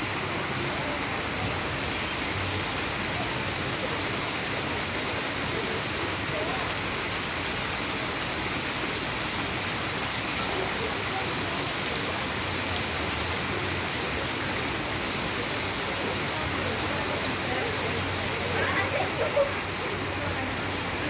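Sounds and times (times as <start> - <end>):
faint voices: 0.0 - 21.0
running water rushing: 0.0 - 21.0.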